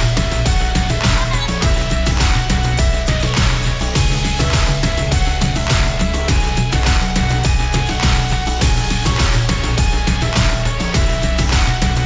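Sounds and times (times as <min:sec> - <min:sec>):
loud music with driving beat: 0:00.0 - 0:12.0.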